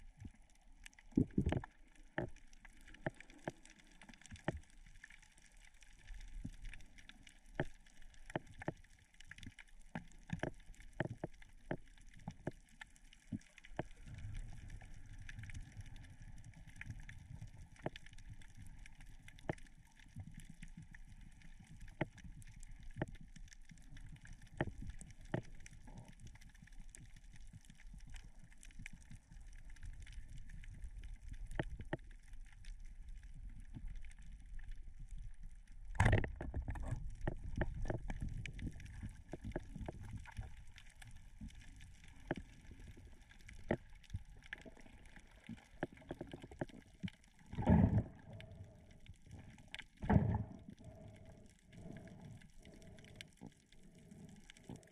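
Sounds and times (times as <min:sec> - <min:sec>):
muffled water sloshing and gurgling: 0:00.0 - 0:54.9.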